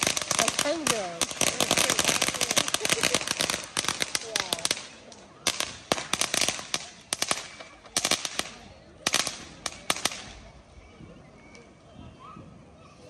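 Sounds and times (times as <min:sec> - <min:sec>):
firecrackers cracking: 0:00.0 - 0:10.6.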